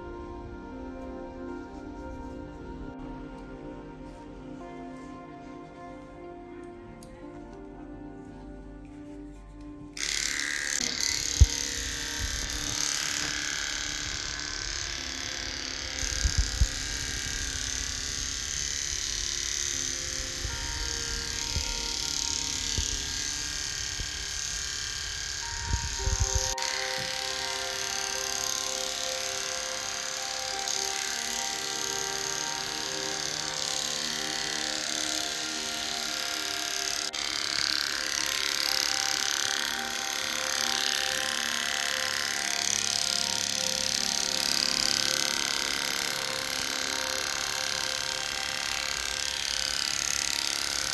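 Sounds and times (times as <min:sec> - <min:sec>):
electric clippers buzzing: 0:00.0 - 0:03.4, 0:09.6 - 0:50.9.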